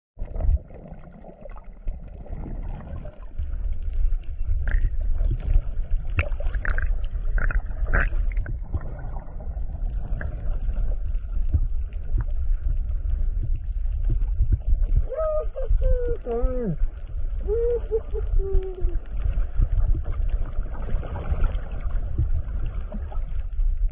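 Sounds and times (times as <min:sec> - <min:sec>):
water rushing and gurgling: 0:00.2 - 0:23.9.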